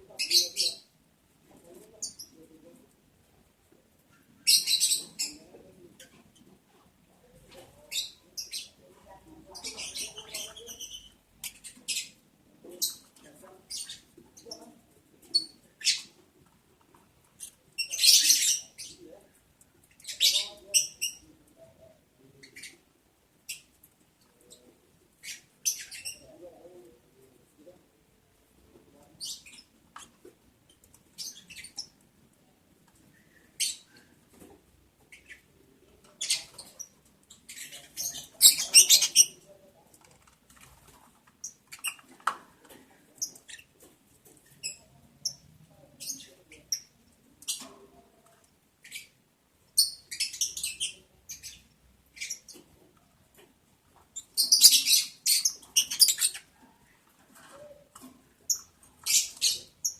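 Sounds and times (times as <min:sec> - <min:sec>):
lovebirds chirping: 0:00.0 - 0:01.0, 0:04.0 - 0:06.5, 0:07.1 - 0:16.2, 0:16.9 - 0:27.8, 0:28.9 - 0:32.1, 0:32.9 - 0:53.4, 0:54.0 - 0:59.9.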